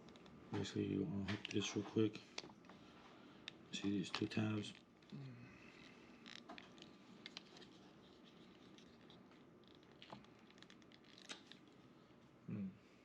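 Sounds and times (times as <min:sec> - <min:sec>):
faint handling noise: 0:00.0 - 0:12.3.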